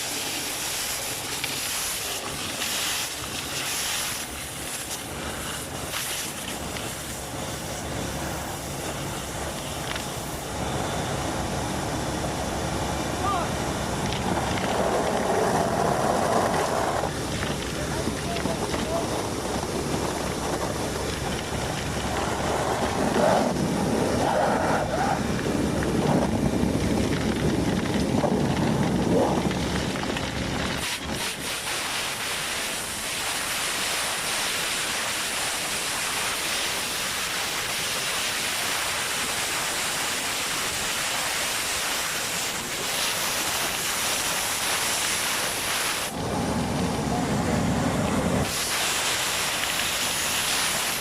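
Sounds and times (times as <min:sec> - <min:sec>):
vacuum excavator air rush: 0:00.0 - 0:26.8, 0:30.7 - 0:51.0.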